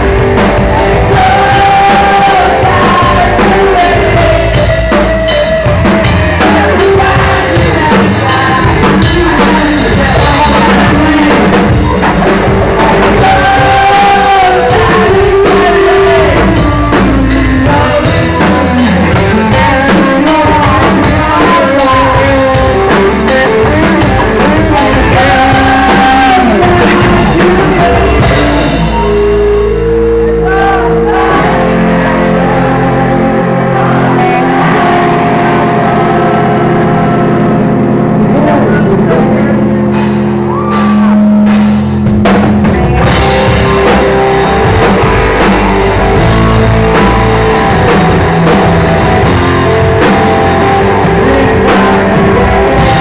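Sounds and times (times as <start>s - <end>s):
drum kit: 0.0s - 53.0s
electric guitar melody: 0.0s - 53.0s.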